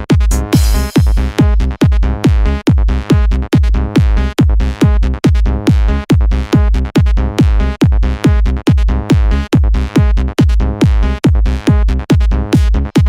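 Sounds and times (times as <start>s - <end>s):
electronic dance music: 0.0s - 13.0s
kick drum pounding: 0.0s - 13.0s.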